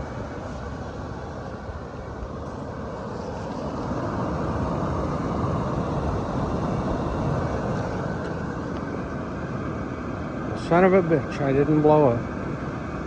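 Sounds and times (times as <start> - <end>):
furnace blower and burner rushing: 0.0 - 13.0.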